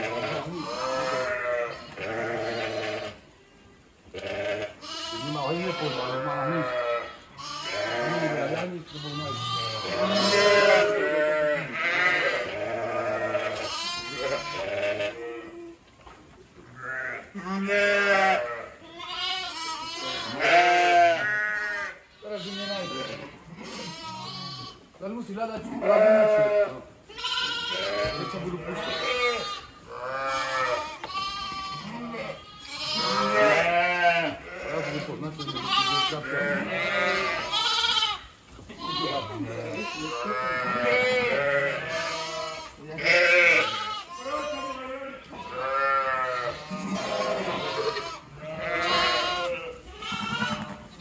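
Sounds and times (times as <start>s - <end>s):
sheep and lambs bleating: 0.0s - 3.4s, 4.1s - 15.8s, 16.6s - 51.0s.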